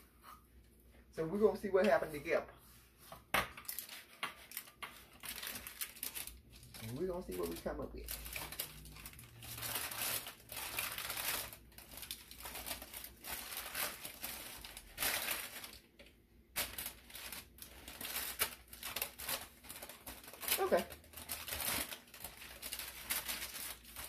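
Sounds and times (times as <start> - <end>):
parchment paper crinkling: 3.6 - 24.0.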